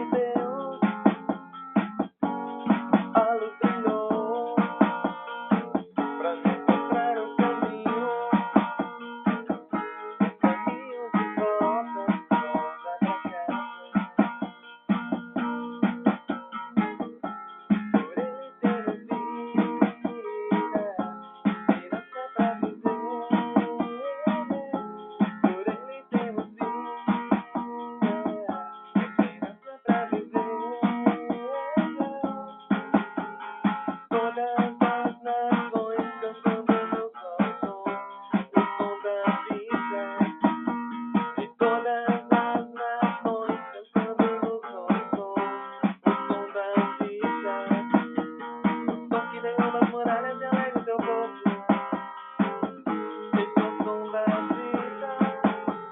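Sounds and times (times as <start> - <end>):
guitar picking: 0.0 - 55.9.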